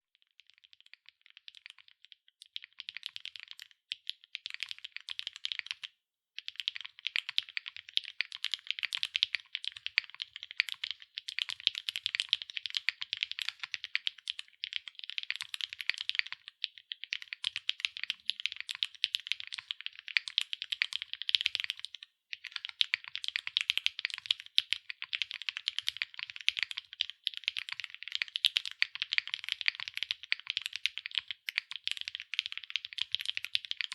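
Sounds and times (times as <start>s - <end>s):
fast typing on mechanical keyboard: 2.6s - 33.9s.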